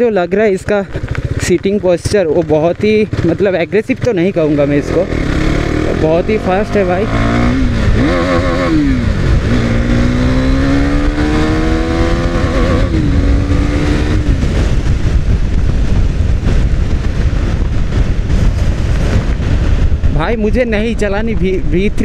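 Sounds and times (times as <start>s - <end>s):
motorcycle engine accelerating: 0.7s - 20.9s
wind on microphone: 4.3s - 22.0s.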